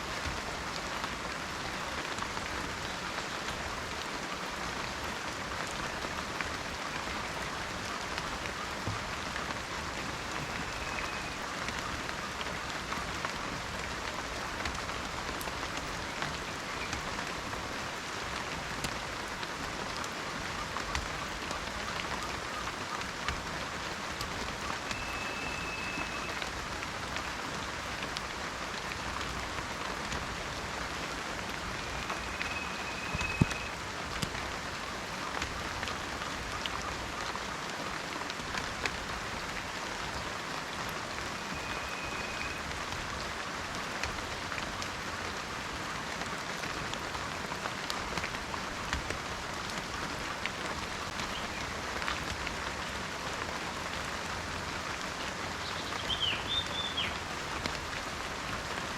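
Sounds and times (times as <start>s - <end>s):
rain falling in forest: 0.0s - 58.9s.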